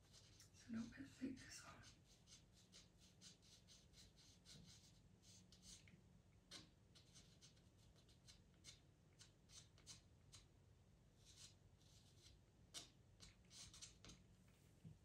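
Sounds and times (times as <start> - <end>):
pastel pencil scratching on paper: 0.0 - 5.9, 6.5 - 10.5, 11.2 - 14.2.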